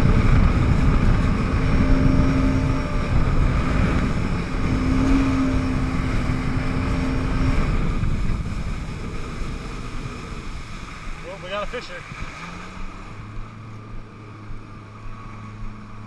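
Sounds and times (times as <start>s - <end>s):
jet ski engine running: 0.0s - 16.0s
water rushing: 0.0s - 16.0s
wind buffeting on microphone: 0.0s - 16.0s.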